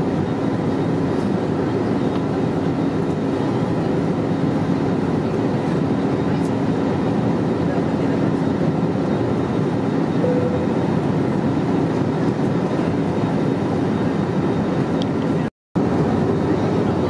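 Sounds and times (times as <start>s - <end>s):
airplane cabin airflow and engine drone: 0.0s - 17.0s.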